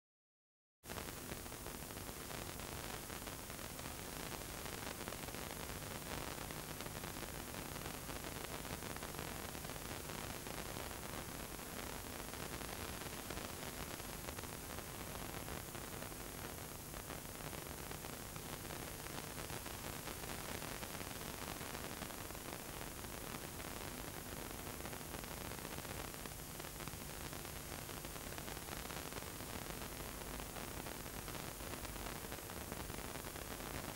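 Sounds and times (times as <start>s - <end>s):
tape hiss with crackle: 0.8s - 33.9s.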